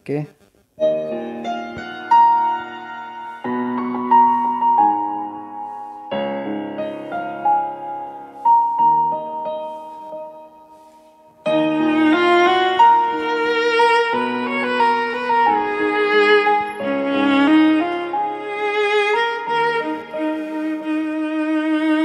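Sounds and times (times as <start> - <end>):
slow instrumental piano music: 0.8 - 22.0.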